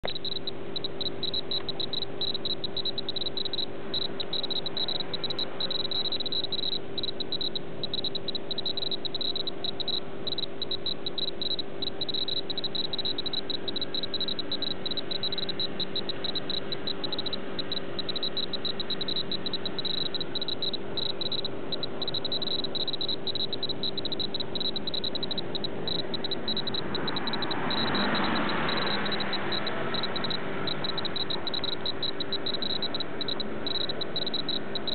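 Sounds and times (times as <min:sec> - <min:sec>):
constant low hum: 0:00.0 - 0:34.9.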